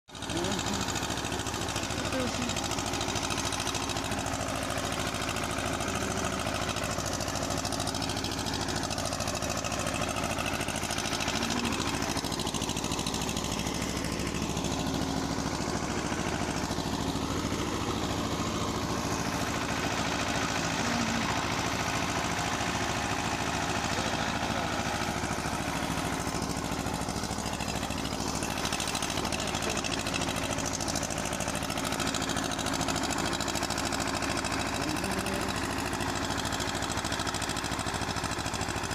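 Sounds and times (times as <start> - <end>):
rotavator tilling dry soil: 0.1 - 38.9
tractor diesel engine running: 0.1 - 38.9.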